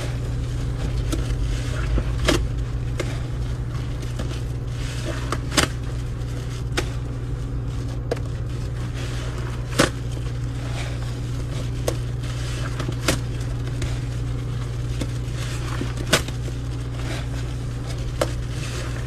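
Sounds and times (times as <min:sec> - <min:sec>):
sponge squishing in foam: 0:00.0 - 0:19.0
steady low hum: 0:00.0 - 0:19.0.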